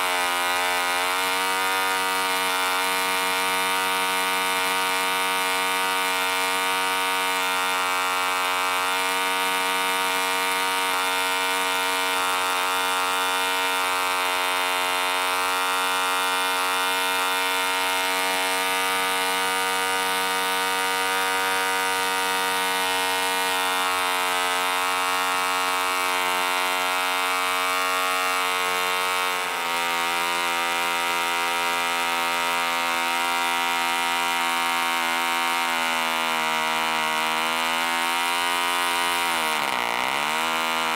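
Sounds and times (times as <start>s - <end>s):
model engine buzzing: 0.0s - 40.9s.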